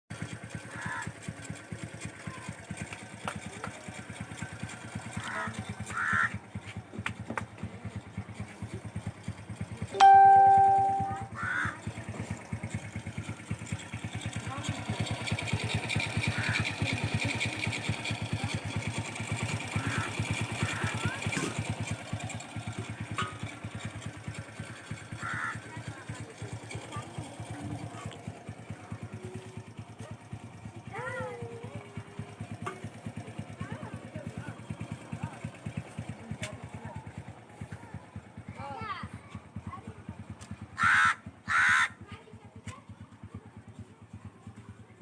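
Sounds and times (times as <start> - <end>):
motorcycle engine idling: 0.1 - 45.0.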